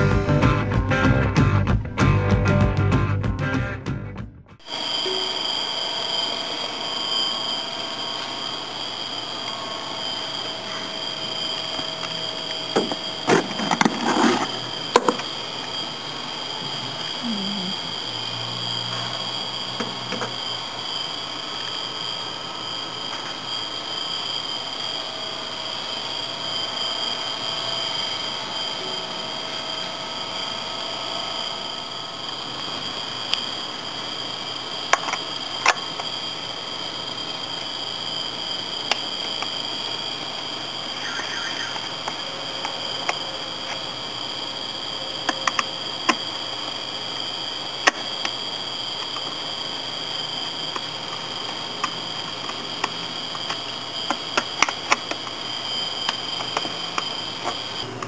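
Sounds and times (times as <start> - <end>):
steady high-pitched whine: 4.6 - 58.0.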